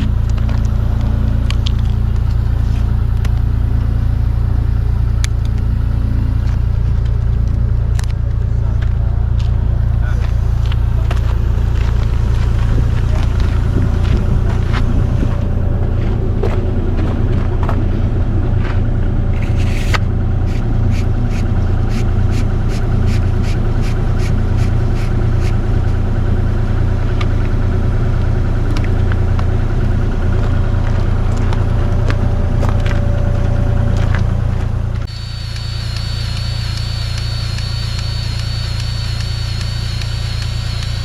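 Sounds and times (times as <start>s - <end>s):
diesel engine rumbling: 0.0s - 41.0s.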